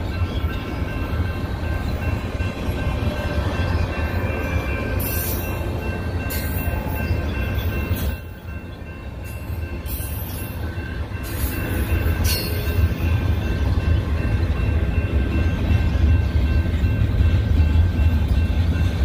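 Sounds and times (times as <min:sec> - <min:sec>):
freight train rumbling and rattling: 0:00.0 - 0:19.0.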